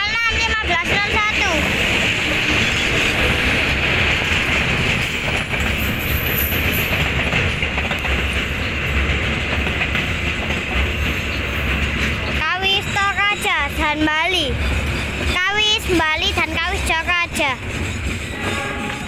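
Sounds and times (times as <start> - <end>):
train wheels rumbling on rails: 0.0 - 19.0
light clicks of train wheels: 0.8 - 19.0.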